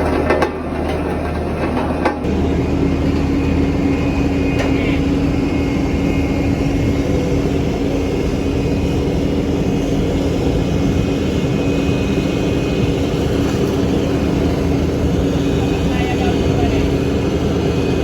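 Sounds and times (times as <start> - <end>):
heavy truck engine running: 0.0 - 18.0.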